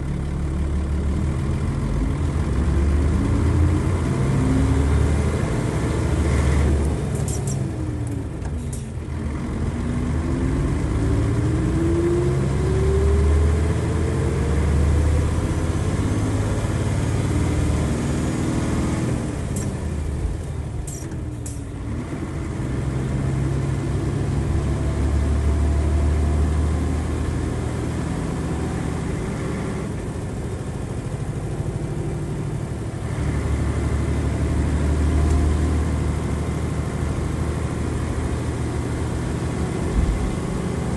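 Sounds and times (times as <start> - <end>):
diesel bus engine pulling hard: 0.0 - 40.9.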